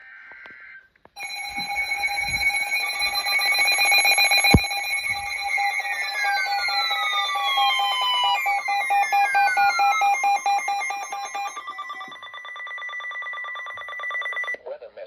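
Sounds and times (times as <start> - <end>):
downward sliding tone: 1.2 - 14.6
electronic alert tone: 1.2 - 14.6.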